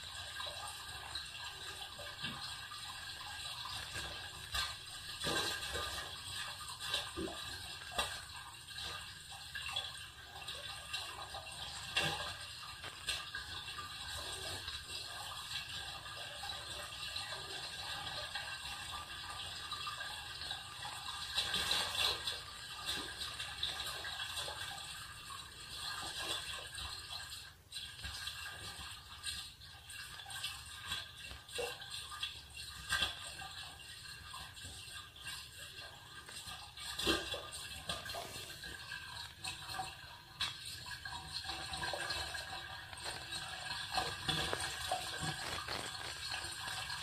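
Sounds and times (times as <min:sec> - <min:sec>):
water sloshing and gurgling in drain: 0:00.0 - 0:47.0.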